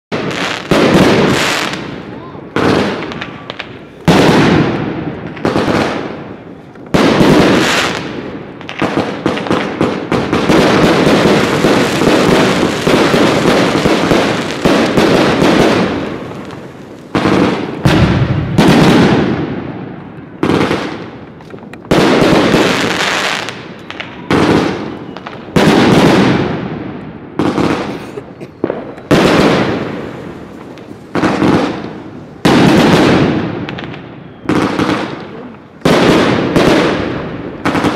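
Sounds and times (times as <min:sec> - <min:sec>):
firework crackling: 0:00.1 - 0:37.9
firework reports: 0:00.1 - 0:37.9.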